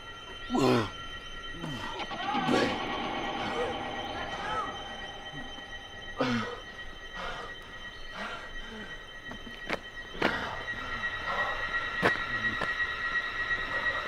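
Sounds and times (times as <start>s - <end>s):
high-pitched ringing drone: 0.0s - 14.0s.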